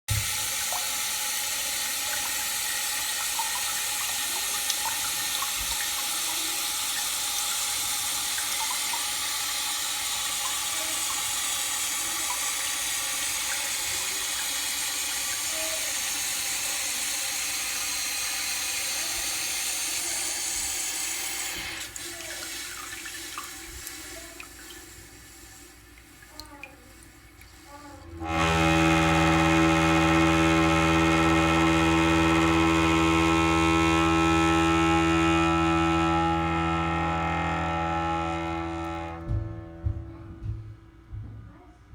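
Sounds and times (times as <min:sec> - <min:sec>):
toilet tank refilling hiss: 0:00.1 - 0:39.9.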